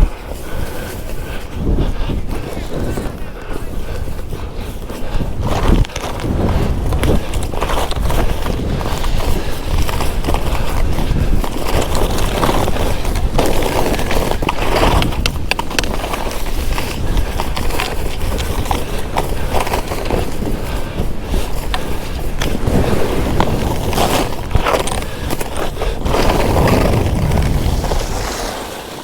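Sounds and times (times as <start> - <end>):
skis scraping through snow: 0.0 - 29.0
wind buffeting microphone: 0.0 - 29.0.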